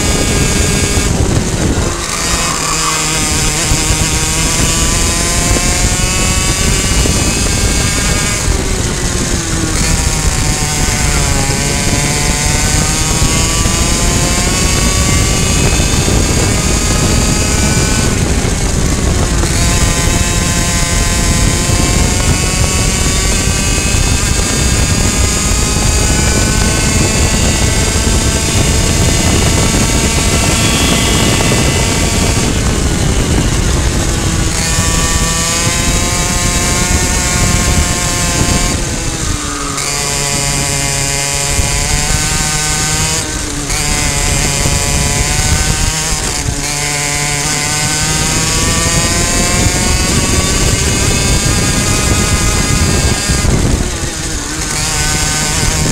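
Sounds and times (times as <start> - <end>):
two-stroke kart engine revving: 0.0 - 55.9.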